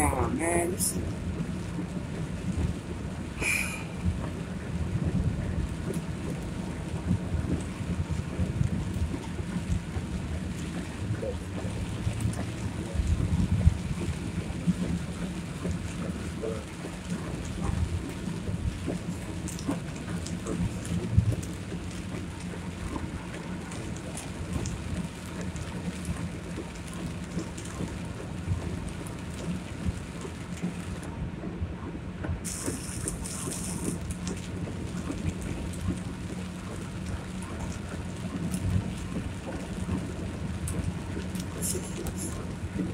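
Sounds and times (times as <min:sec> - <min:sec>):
car driving low rumble: 0:00.0 - 0:42.9
heavy rain drops on a car: 0:00.0 - 0:42.9.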